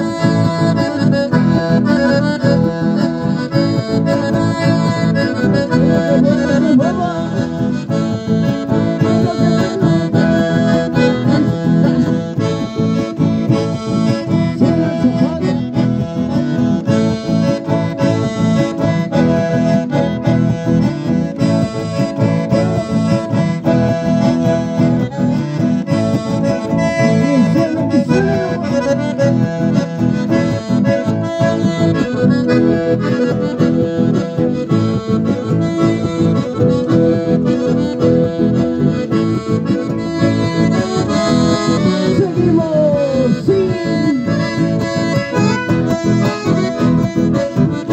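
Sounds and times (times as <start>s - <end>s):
acoustic guitar strumming: 0.0s - 47.9s
button accordion playing: 0.0s - 47.9s.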